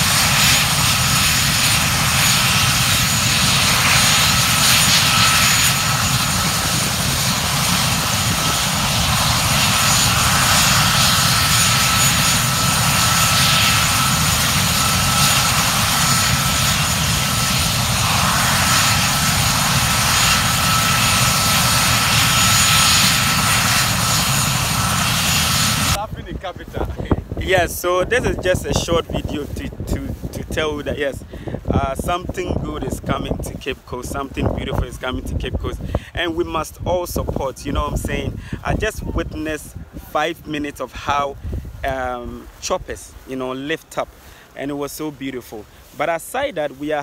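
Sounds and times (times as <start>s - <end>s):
helicopter rotor and engine noise: 0.0s - 47.0s
high turbine whine: 0.0s - 47.0s.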